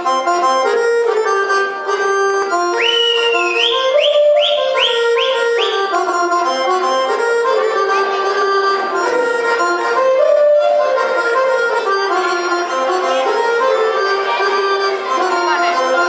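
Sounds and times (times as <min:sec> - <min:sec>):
accordion fast melody: 0:00.0 - 0:16.0
folk dance band: 0:00.0 - 0:16.0.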